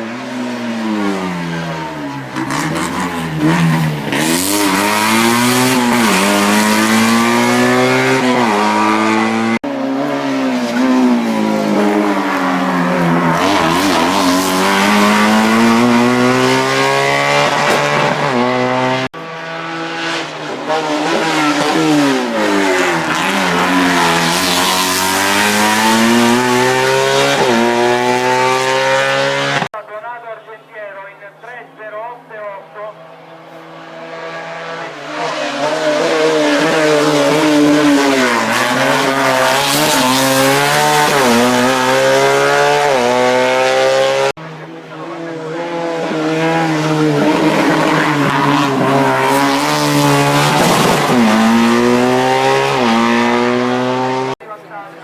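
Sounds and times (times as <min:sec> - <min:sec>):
race car engines revving: 0:00.0 - 0:29.8, 0:31.3 - 0:55.0.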